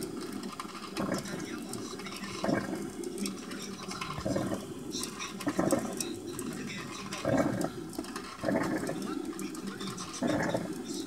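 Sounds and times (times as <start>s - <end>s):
coffee maker gurgling and sputtering: 0.0s - 11.0s
steady hiss: 0.0s - 11.0s.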